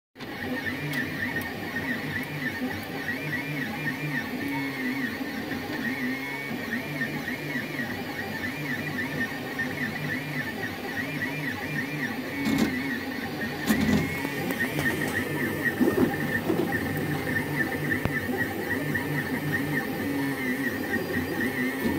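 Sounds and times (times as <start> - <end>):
stepper motor whining buzz: 0.2 - 21.9.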